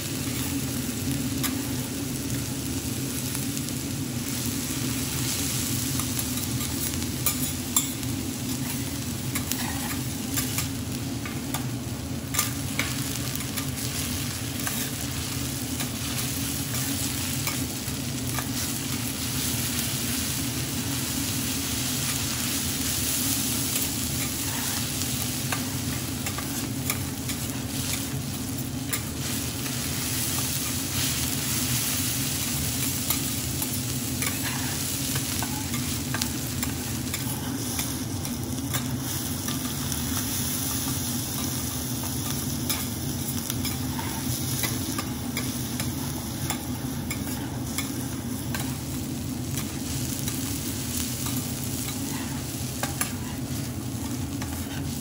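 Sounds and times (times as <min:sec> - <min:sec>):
rice sizzling on griddle: 0:00.0 - 0:55.0.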